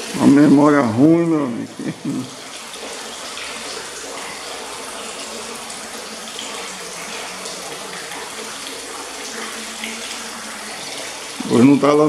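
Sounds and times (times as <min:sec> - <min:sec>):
liquid running: 0:00.0 - 0:12.0.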